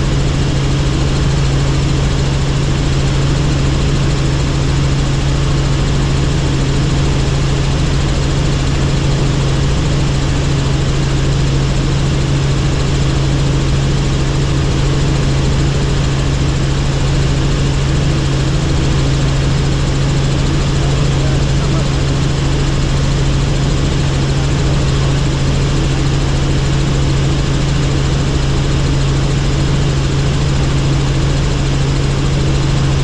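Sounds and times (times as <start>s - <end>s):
helicopter rotor and engine: 0.0s - 33.0s.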